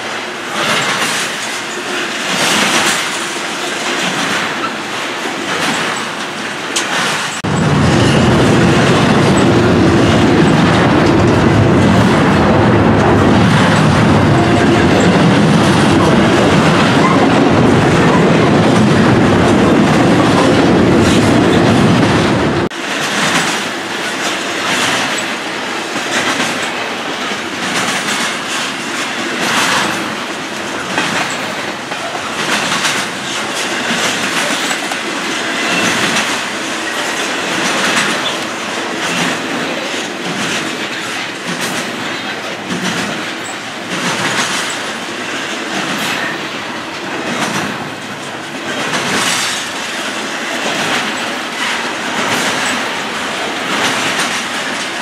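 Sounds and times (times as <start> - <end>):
freight train rumbling past: 0.0 - 55.0
wheels clicking over rail joints: 0.0 - 55.0.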